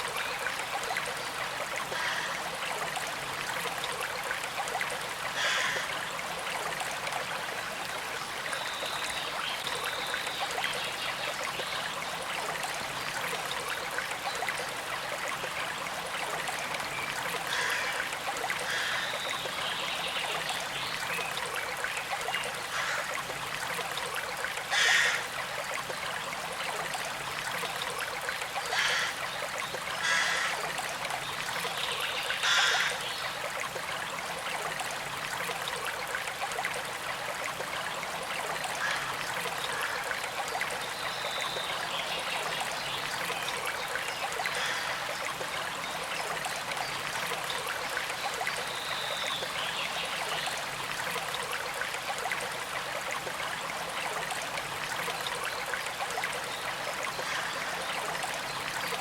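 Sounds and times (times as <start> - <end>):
creek trickling: 0.0 - 59.0.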